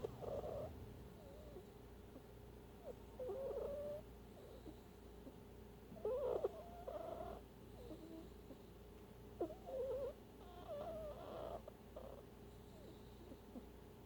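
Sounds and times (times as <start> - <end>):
animal snoring: 0.0 - 1.8, 2.8 - 5.4, 6.0 - 8.8, 9.4 - 13.7.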